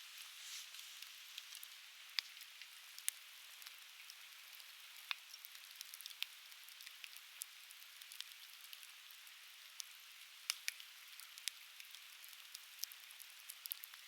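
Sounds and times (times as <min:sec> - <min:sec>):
firewood crackling and popping: 0:00.1 - 0:14.0.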